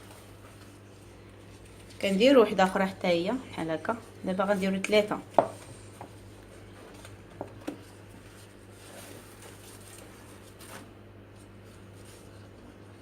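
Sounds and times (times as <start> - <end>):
pastry sheets rustling: 0.0 - 13.0.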